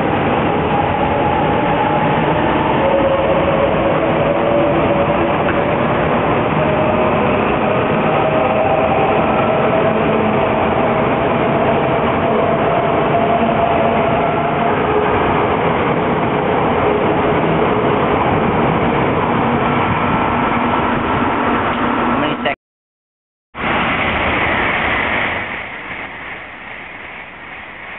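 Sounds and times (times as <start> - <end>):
bullet train passing: 0.0 - 22.4, 23.6 - 27.9.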